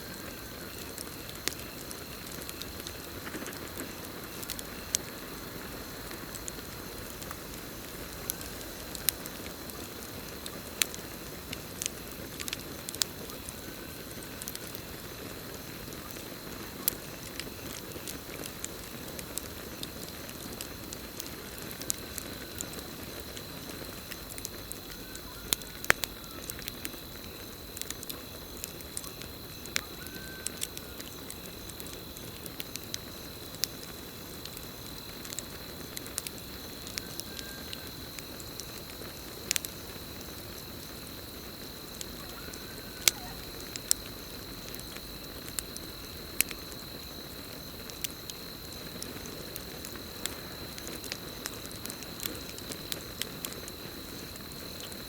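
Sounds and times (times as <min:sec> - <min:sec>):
campfire crackling and popping: 0:00.0 - 0:55.0
crickets trilling: 0:00.0 - 0:55.0.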